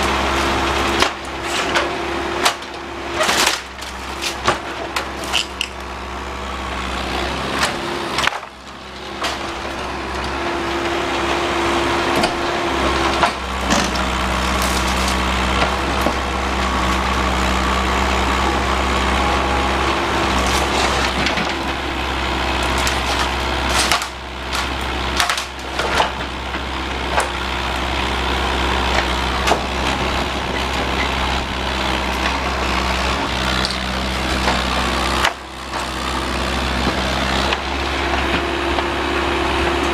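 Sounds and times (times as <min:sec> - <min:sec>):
wood cracking and splintering: 0:00.0 - 0:06.0, 0:06.7 - 0:39.9
excavator engine under load: 0:00.0 - 0:39.9.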